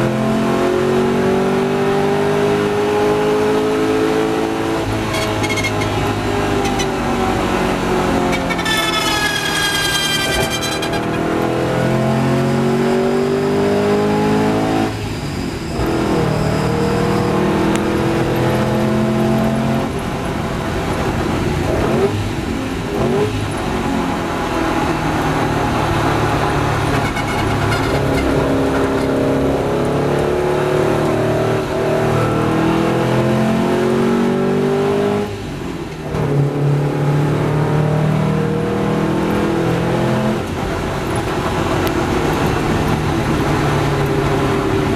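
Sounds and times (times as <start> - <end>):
racing car engine revving: 0.0 - 15.1, 15.7 - 44.9.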